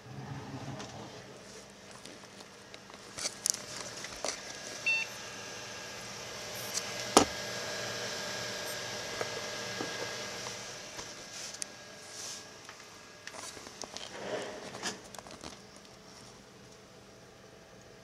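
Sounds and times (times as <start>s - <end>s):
cooling fans whirring: 0.0s - 18.0s.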